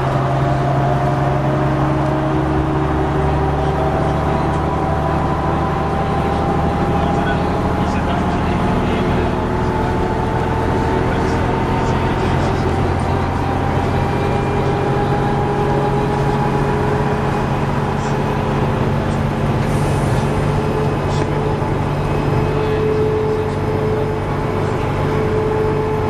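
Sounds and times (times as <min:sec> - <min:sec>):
diesel engine running: 0:00.0 - 0:26.0
steady whine: 0:00.0 - 0:26.0.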